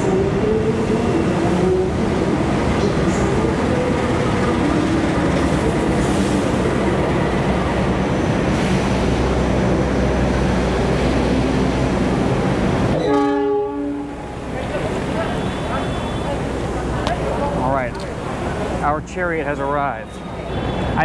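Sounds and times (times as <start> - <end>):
train coaches rolling on rails: 0.0 - 21.0.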